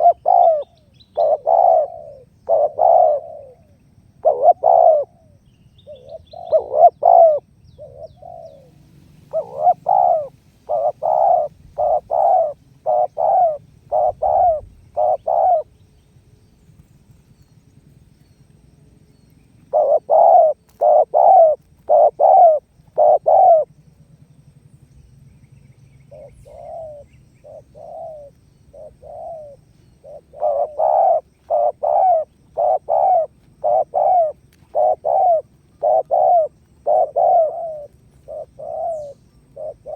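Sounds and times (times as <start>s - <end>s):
dove cooing: 0.0s - 15.8s, 19.6s - 24.2s, 26.0s - 39.9s.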